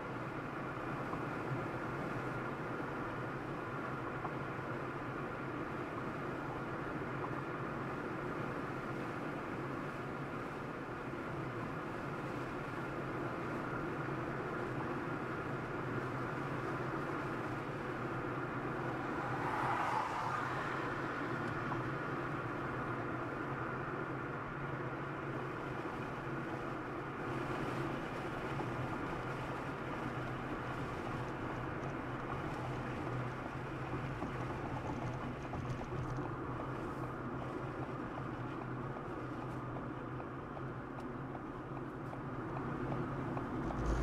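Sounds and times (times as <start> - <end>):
car road and engine noise: 0.0 - 44.0.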